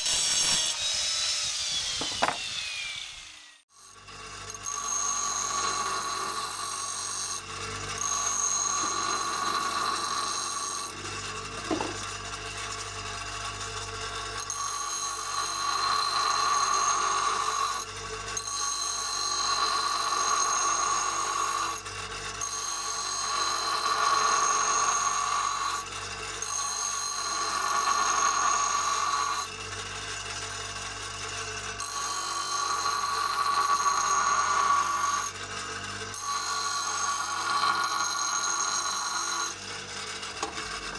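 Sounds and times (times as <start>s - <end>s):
bench grinder grinding steel chain: 0.0s - 40.9s.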